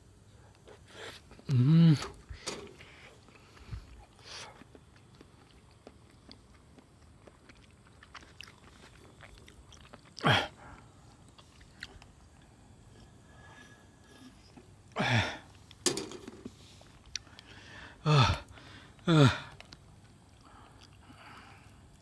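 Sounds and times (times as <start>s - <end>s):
person chewing food: 2.1s - 15.8s, 16.8s - 22.0s.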